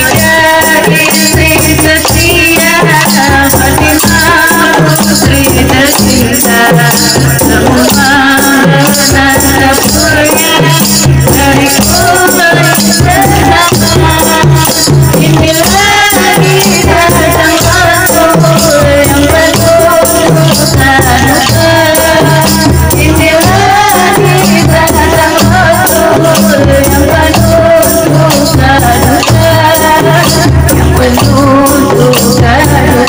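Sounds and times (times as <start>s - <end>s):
frame drums: 0.0s - 33.0s
tambourines jingling: 0.0s - 33.0s
woman singing into microphone: 0.0s - 33.0s.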